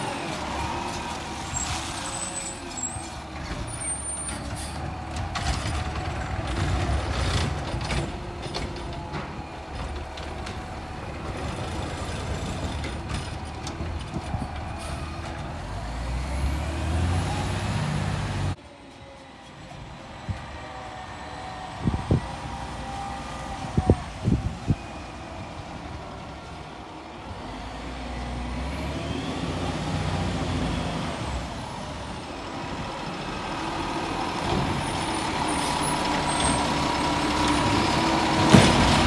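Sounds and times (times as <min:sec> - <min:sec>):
garbage truck diesel engine: 0:00.0 - 0:39.0.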